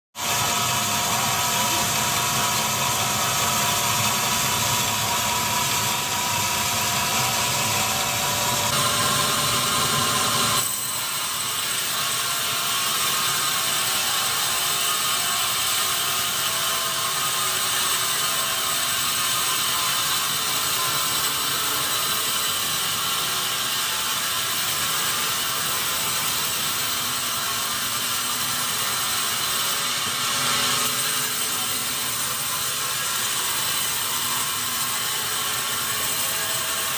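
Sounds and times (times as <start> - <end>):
sawmill machinery running: 0.2 - 36.9.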